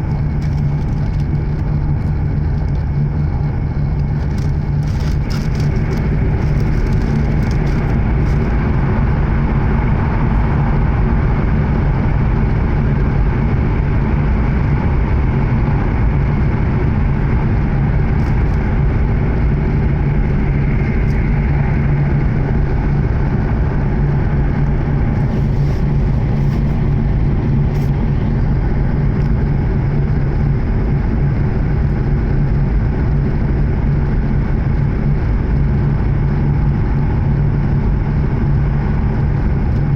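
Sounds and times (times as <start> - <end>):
train interior rumble and hum: 0.0 - 39.9.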